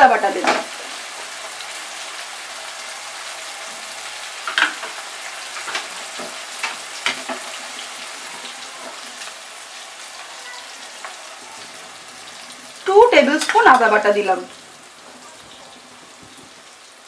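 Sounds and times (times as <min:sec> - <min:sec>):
tomato sizzling in hot oil: 0:00.0 - 0:17.0.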